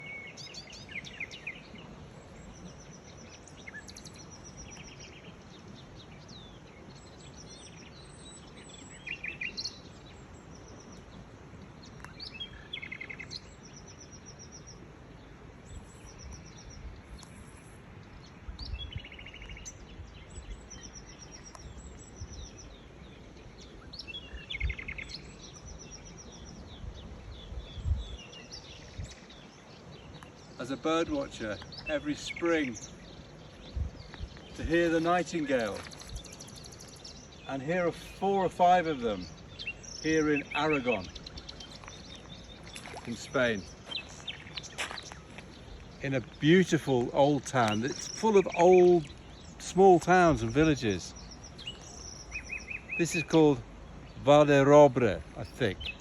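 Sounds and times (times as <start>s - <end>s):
nightingales singing: 0.0s - 56.0s.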